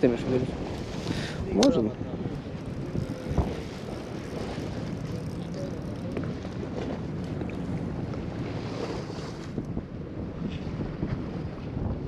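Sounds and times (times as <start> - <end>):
sea waves washing: 0.0 - 11.6
wind buffeting microphone: 0.0 - 12.0.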